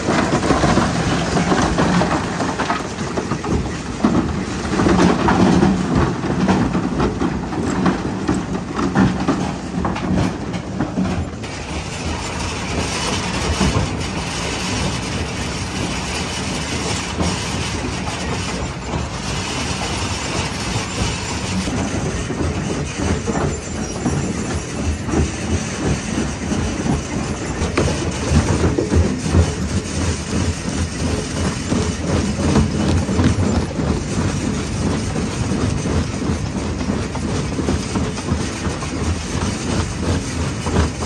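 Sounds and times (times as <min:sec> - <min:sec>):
rock crusher rumbling: 0:00.0 - 0:41.0.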